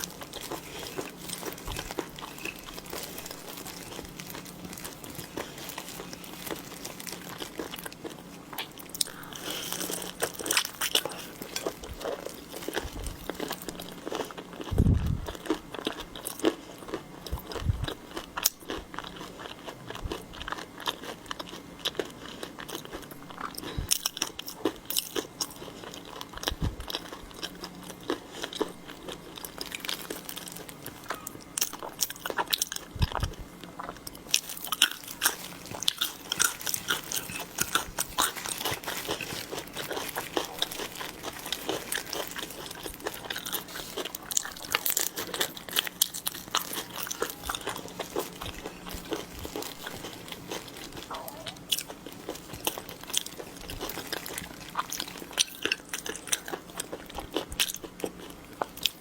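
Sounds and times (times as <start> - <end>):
crunching and chewing seafood: 0.0 - 59.0.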